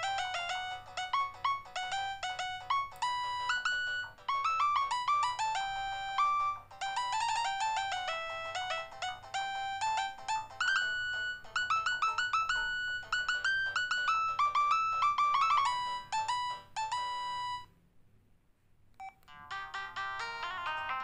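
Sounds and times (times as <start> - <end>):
phone ringtone melody: 0.0 - 17.7, 19.1 - 21.0.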